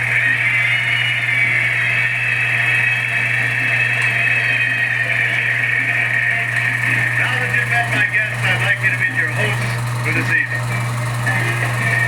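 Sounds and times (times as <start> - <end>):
film projector whirring: 0.0 - 12.0
low hum: 0.0 - 12.0.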